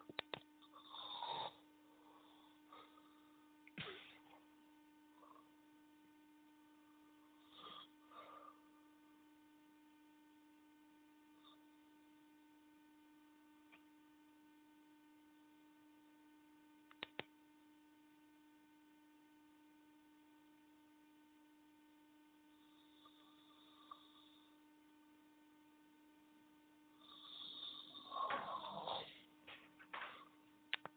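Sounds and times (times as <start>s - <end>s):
faint electrical hum: 0.0s - 30.9s.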